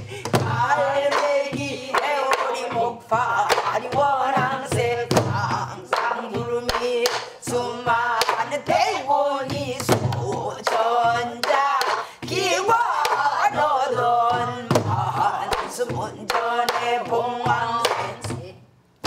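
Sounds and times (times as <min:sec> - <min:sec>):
woman singing in a wavering voice: 0:00.0 - 0:18.7.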